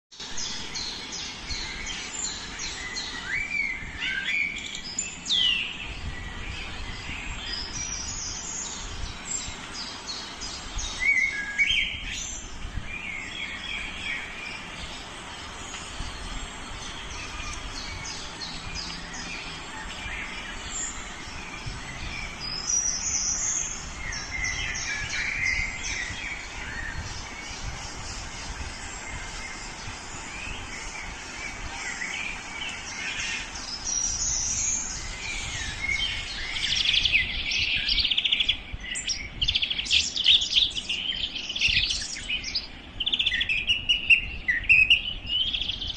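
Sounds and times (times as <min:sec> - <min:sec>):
small birds chirping: 0:00.1 - 0:45.9
steady background noise: 0:00.2 - 0:45.9.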